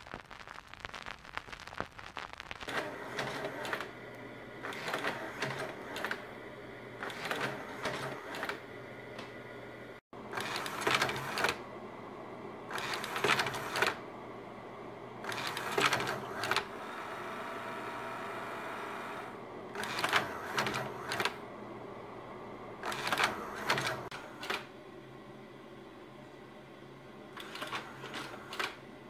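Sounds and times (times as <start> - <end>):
projector fan hum: 2.6 - 29.0.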